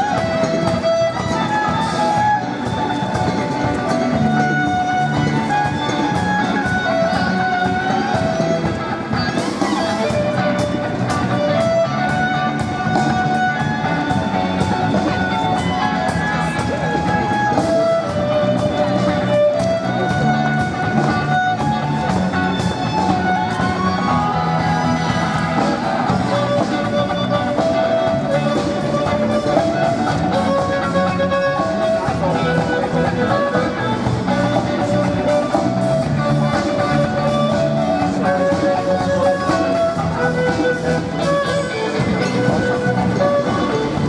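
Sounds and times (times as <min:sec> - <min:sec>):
guitar chords: 0:00.0 - 0:44.0
live rock band: 0:00.0 - 0:44.0
violin melody: 0:00.0 - 0:44.0.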